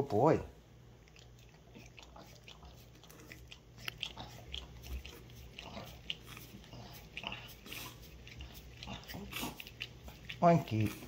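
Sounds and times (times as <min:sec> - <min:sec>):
dog licking: 0:01.0 - 0:11.0.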